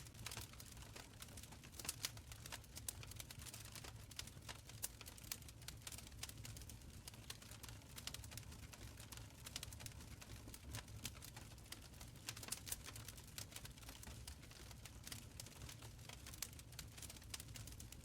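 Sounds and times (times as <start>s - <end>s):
low rumble of burning: 0.0s - 18.0s
wood fire crackling: 0.0s - 18.0s
fire popping and snapping: 0.1s - 18.0s.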